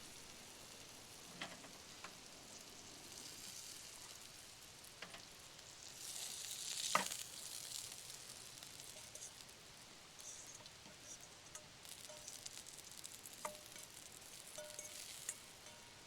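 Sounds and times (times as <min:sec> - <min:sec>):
sausages sizzling in frying pan: 0:00.0 - 0:16.0.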